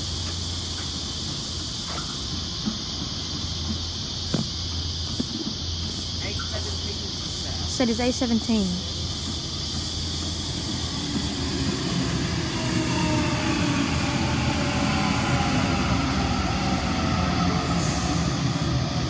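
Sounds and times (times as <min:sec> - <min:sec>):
train motors whining: 0:00.0 - 0:19.0
wheels rumbling on rail: 0:00.0 - 0:19.0.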